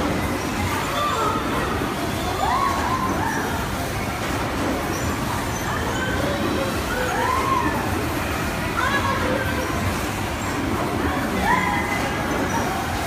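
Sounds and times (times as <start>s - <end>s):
busy indoor play area: 0.0s - 13.0s
kiddie carousel spinning: 0.0s - 13.0s.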